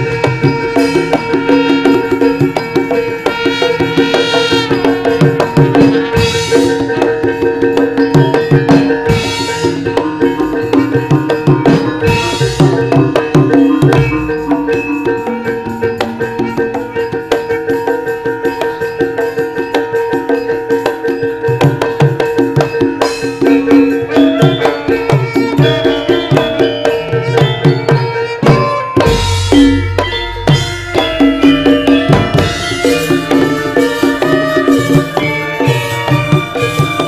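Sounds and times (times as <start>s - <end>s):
hand drums: 0.0s - 37.0s
metallophones struck with mallets: 0.0s - 37.0s.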